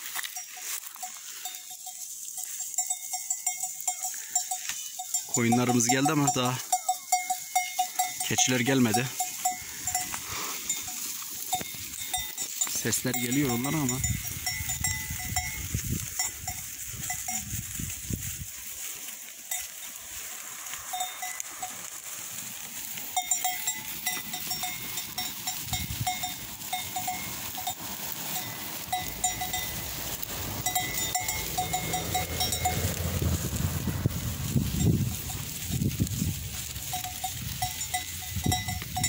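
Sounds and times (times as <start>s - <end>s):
animal bells clanking: 0.0s - 39.0s.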